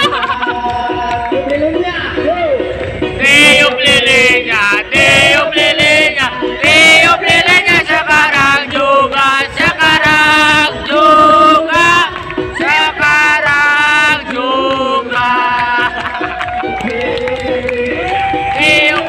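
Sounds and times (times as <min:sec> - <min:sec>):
voices singing over music: 0:00.0 - 0:19.0.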